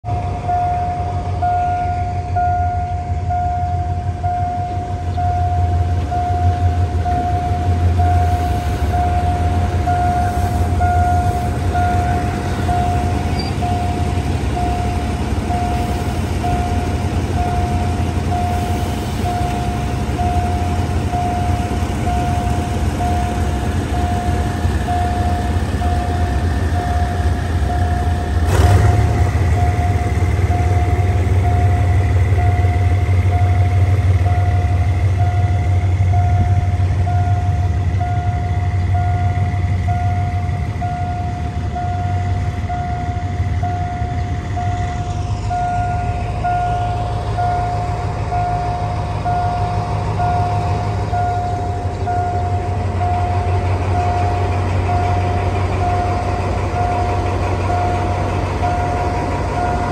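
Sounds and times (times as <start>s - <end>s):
diesel locomotive idling rumble: 0.0s - 59.9s
level crossing signal beeping: 0.1s - 59.9s.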